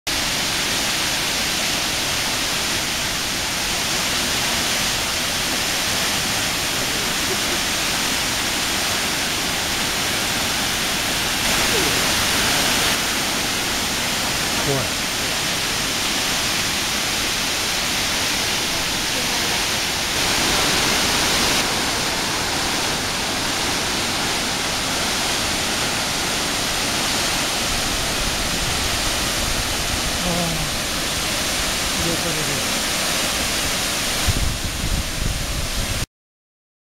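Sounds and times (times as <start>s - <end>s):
waterfall rushing: 0.1s - 36.1s.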